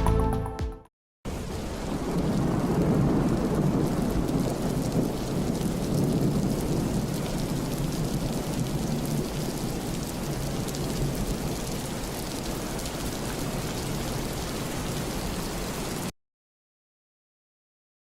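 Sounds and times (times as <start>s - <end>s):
rain pattering: 1.3s - 16.1s.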